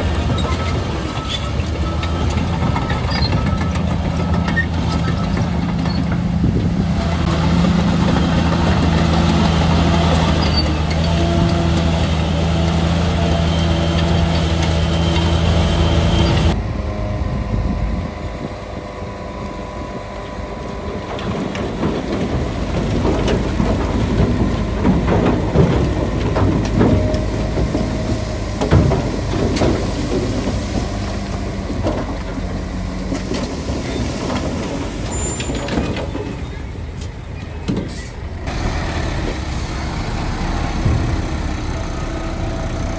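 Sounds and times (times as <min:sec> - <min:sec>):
machinery clanks and knocks: 0:00.0 - 0:16.6, 0:20.2 - 0:42.9
large diesel engine running: 0:00.0 - 0:42.9.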